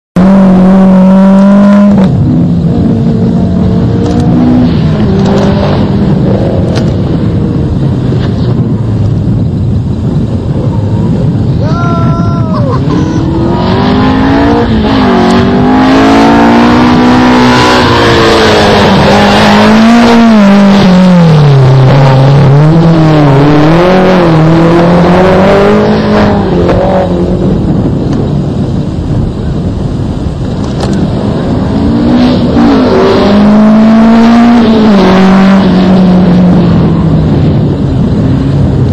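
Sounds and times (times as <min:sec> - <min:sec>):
race car engine revving: 0:00.2 - 0:08.7, 0:12.7 - 0:38.9.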